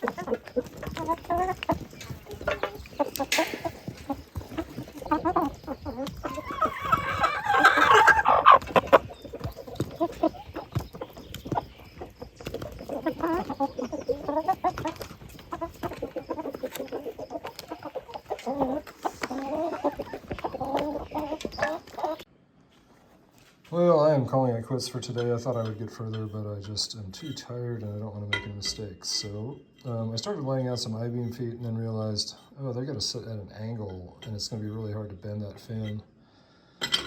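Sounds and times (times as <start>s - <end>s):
chickens clucking: 0.0s - 23.2s, 24.3s - 36.1s.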